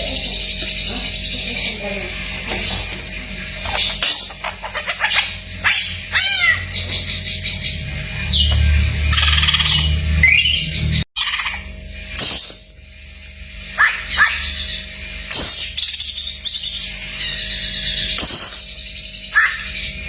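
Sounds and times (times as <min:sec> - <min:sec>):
bird singing with chirps and whistles: 0:00.0 - 0:03.0, 0:03.6 - 0:12.8, 0:13.8 - 0:20.0.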